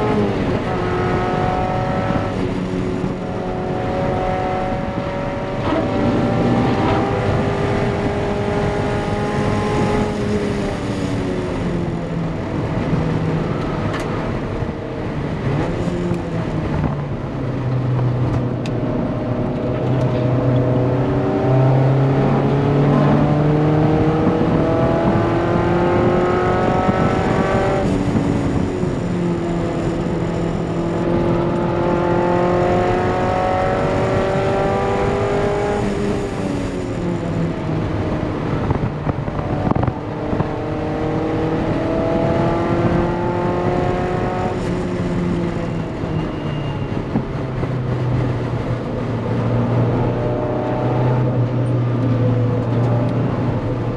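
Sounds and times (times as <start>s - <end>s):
car engine revving at full throttle: 0.0s - 53.9s
road and wind noise: 0.0s - 53.9s.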